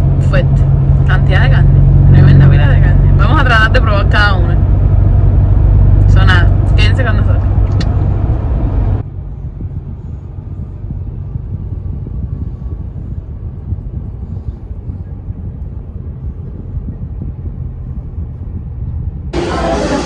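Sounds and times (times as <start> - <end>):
car road rumble and engine hum: 0.0 - 20.0.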